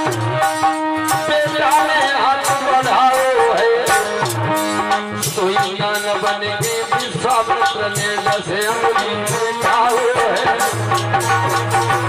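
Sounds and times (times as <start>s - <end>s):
beating percussion: 0.0s - 12.0s
harmonium: 0.0s - 12.0s
man singing: 1.1s - 12.0s.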